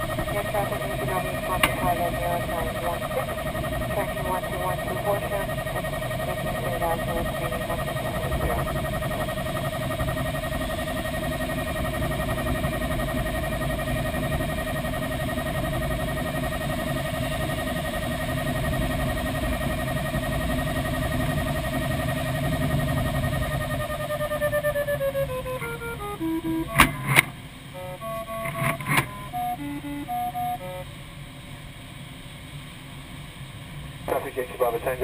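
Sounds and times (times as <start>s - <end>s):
variometer high tone: 0.0s - 31.6s.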